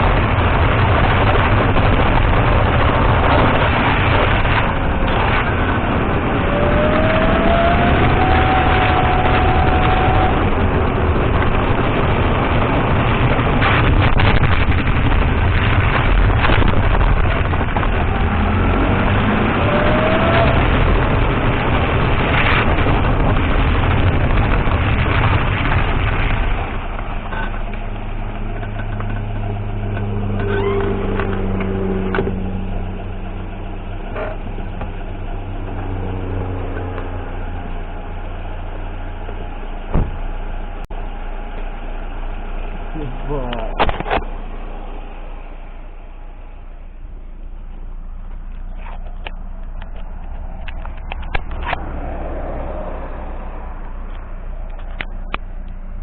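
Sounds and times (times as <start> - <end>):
car engine hum: 0.0 - 56.0
road and tyre rumble: 0.0 - 56.0.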